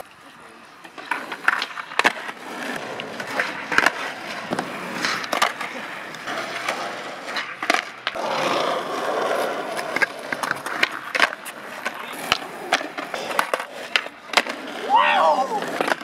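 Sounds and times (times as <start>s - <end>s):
skateboard wheels rolling: 0.0s - 16.0s
skateboard pops and clacks: 0.8s - 16.0s.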